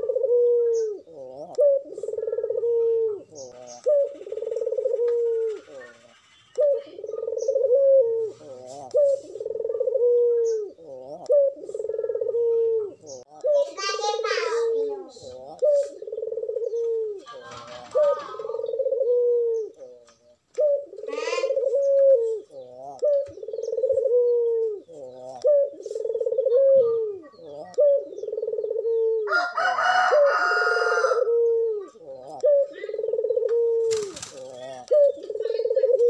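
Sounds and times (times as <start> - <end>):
dove cooing: 0.0 - 36.0.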